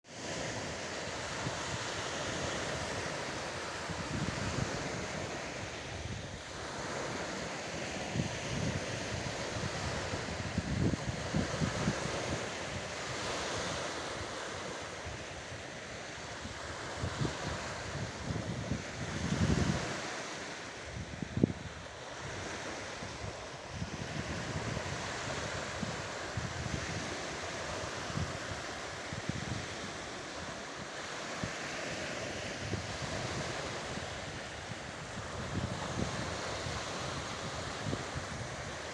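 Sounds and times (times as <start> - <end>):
wind buffeting microphone: 0.4 - 15.7, 16.3 - 20.2, 20.8 - 38.9.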